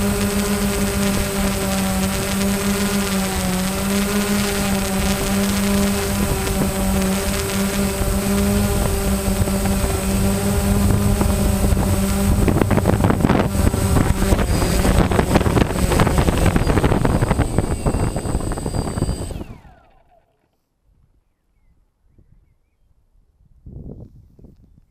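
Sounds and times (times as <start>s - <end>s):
drone propellers humming: 0.0s - 20.3s
drone motors winding down: 0.0s - 20.5s.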